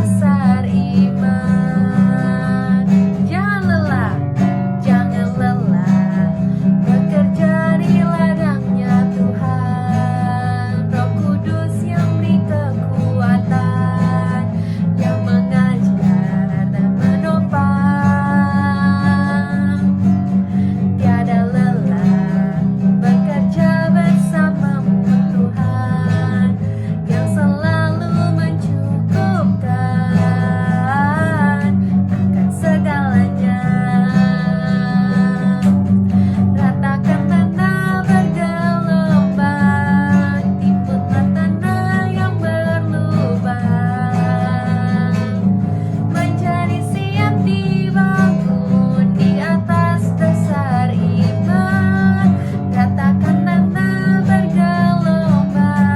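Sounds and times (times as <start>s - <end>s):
praise song with acoustic guitar: 0.0s - 55.9s.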